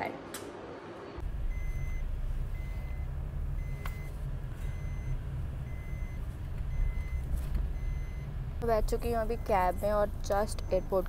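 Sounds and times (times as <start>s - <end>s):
car engine rumble and road noise: 1.2s - 11.0s.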